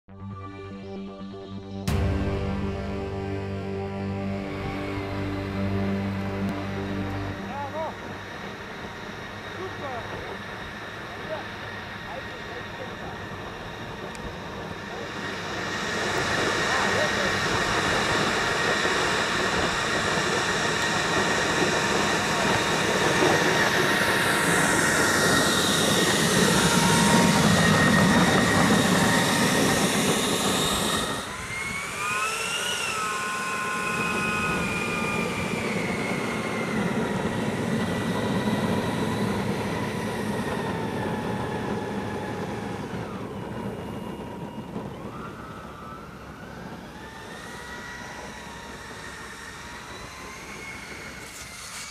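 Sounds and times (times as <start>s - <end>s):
quieter fan whine spooling: 0.1s - 51.9s
electric ducted fan whining: 1.8s - 51.9s.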